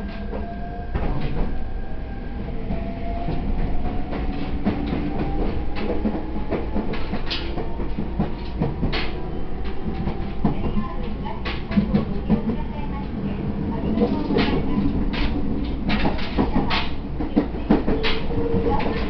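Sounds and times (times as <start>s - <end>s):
train rumble: 0.0s - 19.0s
wheels clacking over rail joints: 3.2s - 19.0s.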